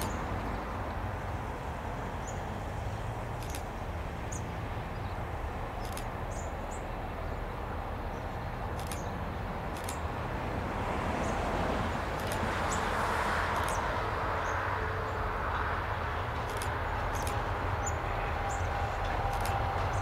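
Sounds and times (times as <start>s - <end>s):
distant locomotive rumble: 0.0s - 20.0s.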